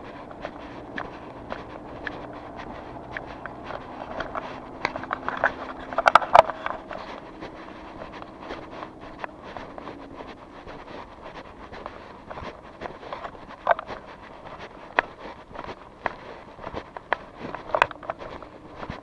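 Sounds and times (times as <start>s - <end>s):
footsteps walking on street: 0.0s - 19.0s.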